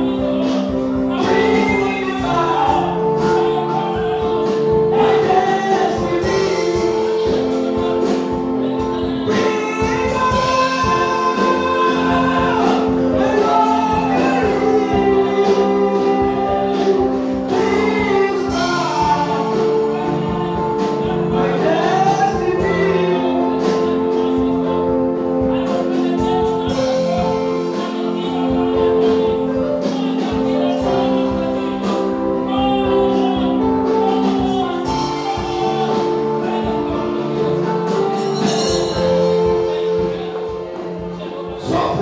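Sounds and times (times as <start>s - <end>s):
choir singing: 0.0s - 42.0s
keyboard chords: 0.0s - 42.0s
steady beat: 0.0s - 42.0s.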